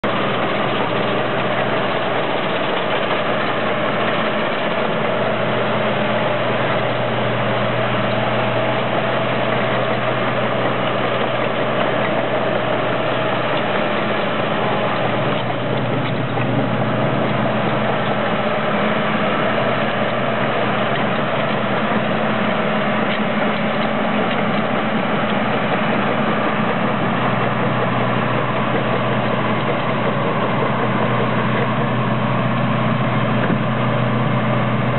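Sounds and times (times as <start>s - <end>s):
bulldozer diesel engine: 0.0s - 34.9s.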